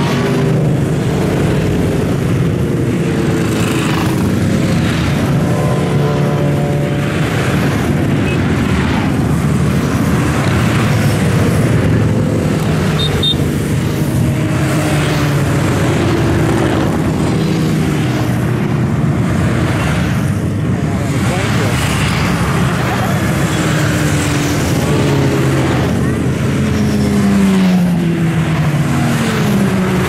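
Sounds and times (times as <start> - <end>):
motorcycles and vehicles passing: 0.0 - 30.0.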